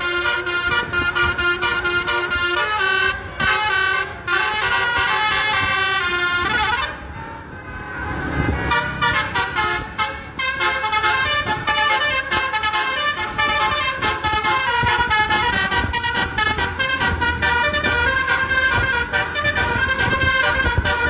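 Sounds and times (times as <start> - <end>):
bus engine rumble: 0.0 - 21.0
multi-tone bus horn tune: 0.0 - 21.0
traffic rumble: 0.0 - 21.0.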